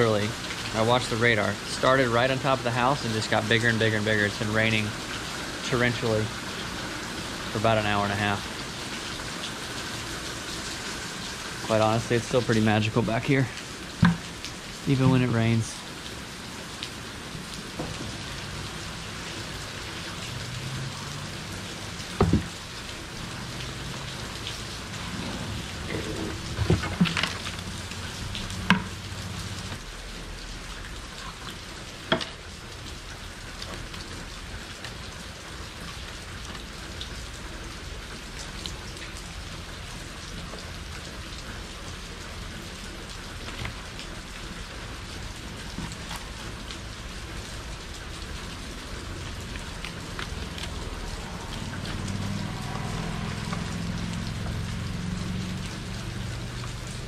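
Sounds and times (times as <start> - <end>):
torrential rain: 0.0 - 57.0.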